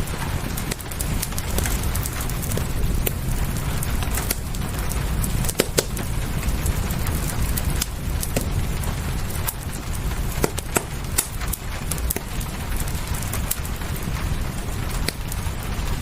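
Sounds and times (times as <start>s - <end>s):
low rumble: 0.0s - 16.0s
rain hiss: 0.0s - 16.0s
wood fire crackling: 0.0s - 16.0s.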